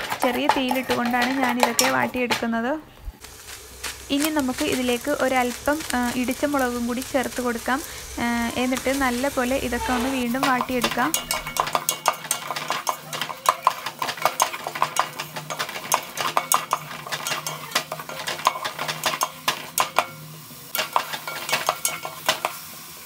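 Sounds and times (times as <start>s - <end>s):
spatula scraping metal pot: 0.0s - 2.4s, 6.2s - 22.6s.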